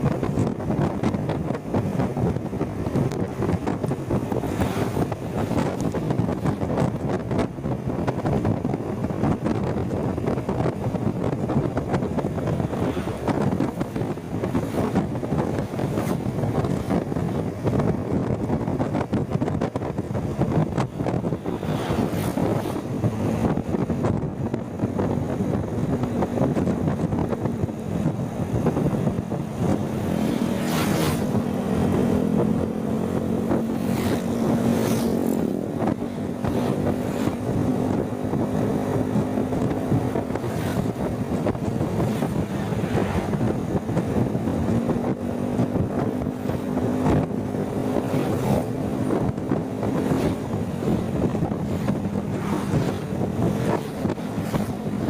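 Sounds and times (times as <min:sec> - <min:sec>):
steady engine hum: 0:00.0 - 0:55.0
traffic and engines: 0:00.0 - 0:55.0
wind on microphone: 0:00.0 - 0:55.0.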